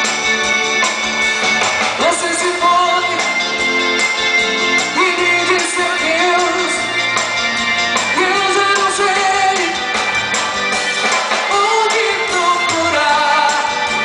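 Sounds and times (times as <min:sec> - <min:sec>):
bass: 0:00.0 - 0:14.0
drums: 0:00.0 - 0:14.0
electric guitar: 0:00.0 - 0:14.0
saxophone: 0:00.0 - 0:14.0
person singing: 0:01.9 - 0:14.0.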